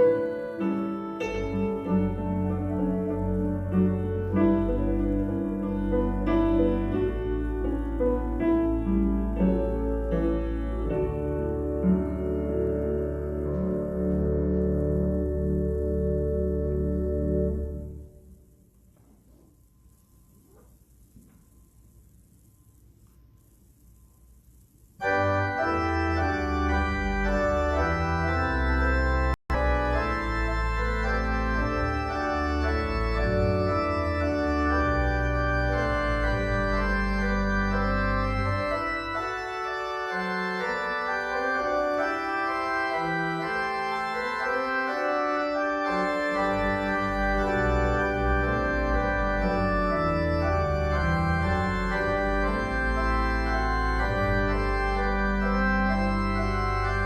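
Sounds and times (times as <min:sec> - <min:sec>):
church organ chords: 0:00.0 - 0:18.5, 0:25.0 - 0:57.0.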